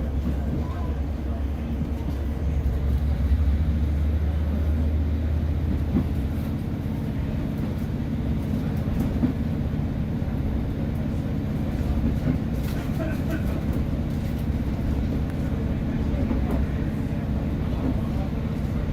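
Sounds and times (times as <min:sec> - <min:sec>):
diesel engine drone: 0:00.0 - 0:18.9
train wheels rumbling on rails: 0:00.0 - 0:18.9.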